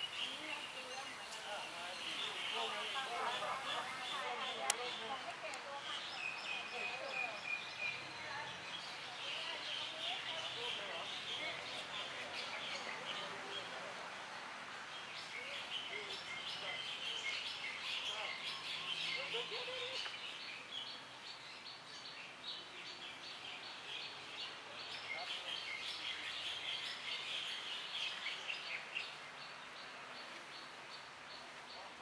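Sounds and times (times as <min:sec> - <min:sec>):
many birds chirping: 0:00.0 - 0:32.0.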